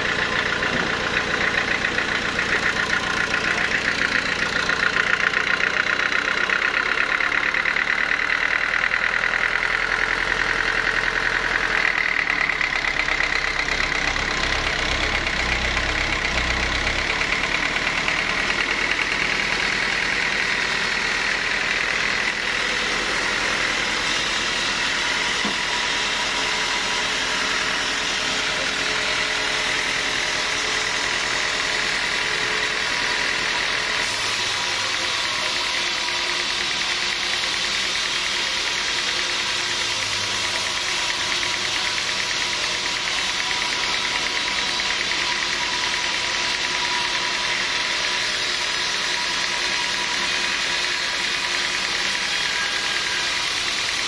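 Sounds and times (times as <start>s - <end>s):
machine high whine: 0.0s - 54.0s
sawmill machinery drone: 0.0s - 54.0s.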